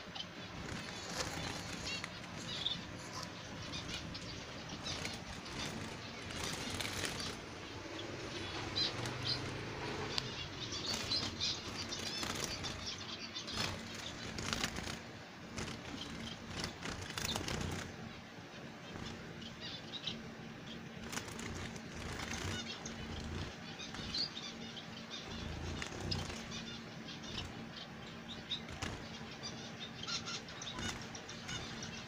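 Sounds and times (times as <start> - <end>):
finches fluttering wings: 0.1 - 18.2, 18.8 - 20.2, 20.9 - 32.0.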